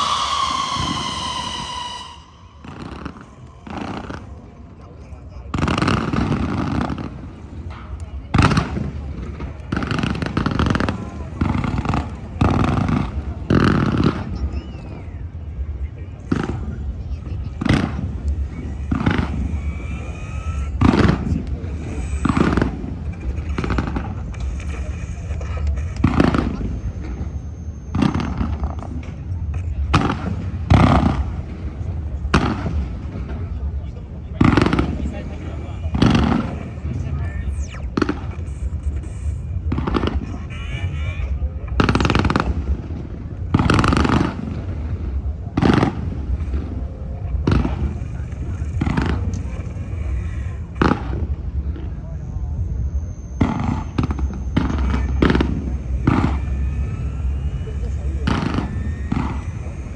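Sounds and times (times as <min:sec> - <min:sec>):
fireworks booming: 0:00.0 - 0:59.9
fireworks crackling: 0:00.0 - 0:59.9
low rumble: 0:00.0 - 0:59.9.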